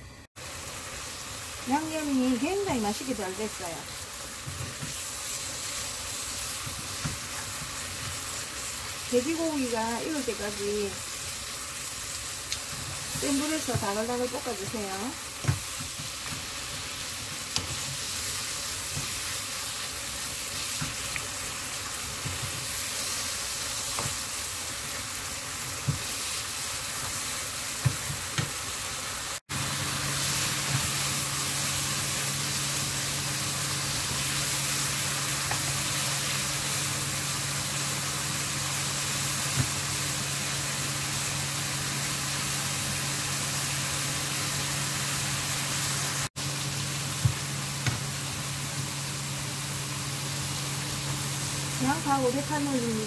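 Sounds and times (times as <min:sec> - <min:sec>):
meat sizzling in a frying pan: 0:00.3 - 0:53.0.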